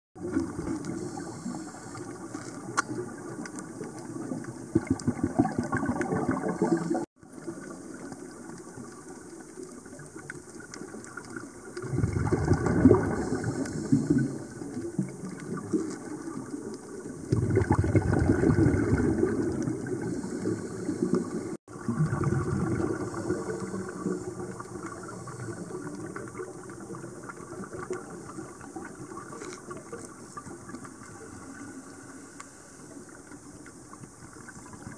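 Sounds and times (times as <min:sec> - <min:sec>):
exhaled bubbles underwater: 0:00.2 - 0:34.9.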